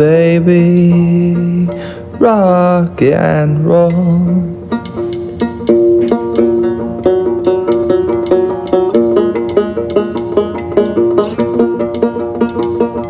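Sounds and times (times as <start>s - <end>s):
plucked string instrument run: 0.0s - 13.0s.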